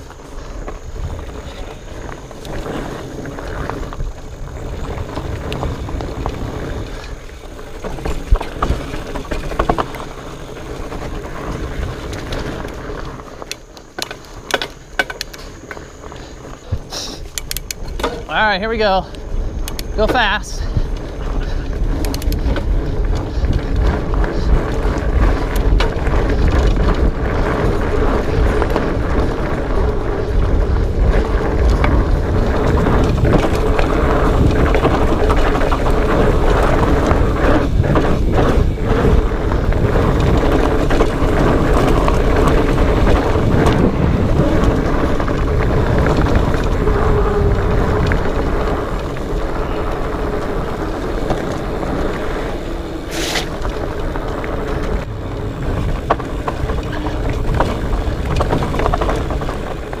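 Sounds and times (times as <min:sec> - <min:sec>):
bike tyres on rocky trail: 0:00.0 - 1:00.0
wind buffeting microphone: 0:00.0 - 1:00.0.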